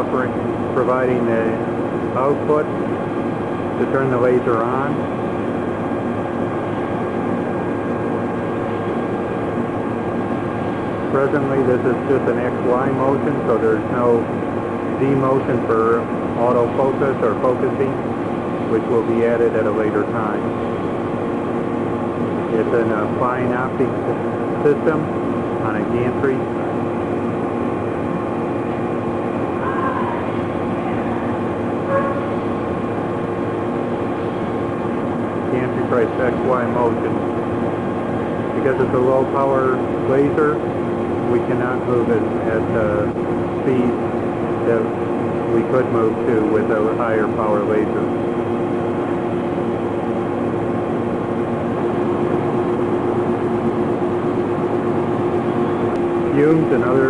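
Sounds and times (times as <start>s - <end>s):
rushing air and machine hum: 0.0s - 57.0s.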